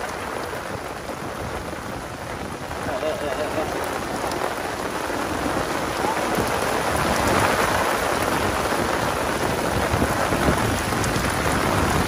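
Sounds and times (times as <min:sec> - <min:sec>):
heavy rain on umbrella: 0:00.0 - 0:12.0
rain on flooded ground: 0:00.0 - 0:12.0.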